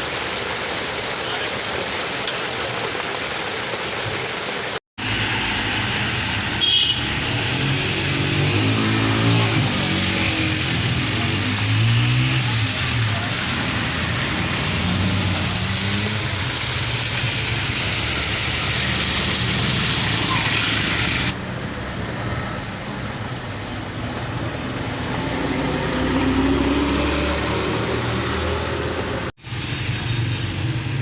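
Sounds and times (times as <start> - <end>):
cars passing on wet street: 0.0 - 31.0
rain hissing: 0.0 - 31.0.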